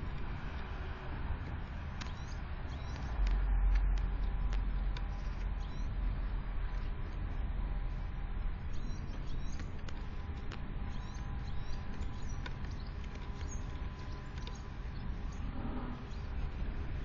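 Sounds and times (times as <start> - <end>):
low steady rumble: 0.0 - 17.0
small birds ticking and scrabbling: 0.0 - 17.0.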